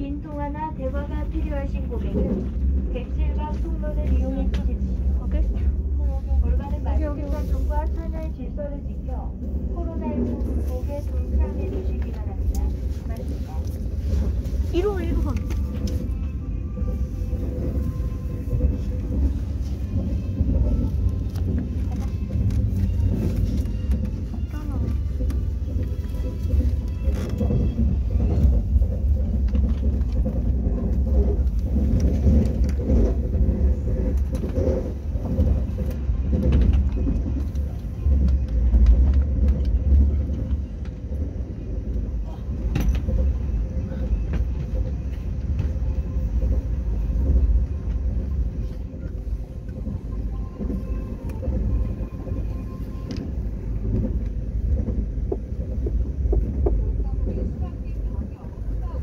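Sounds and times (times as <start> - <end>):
passenger train rumbling: 0.0 - 59.0.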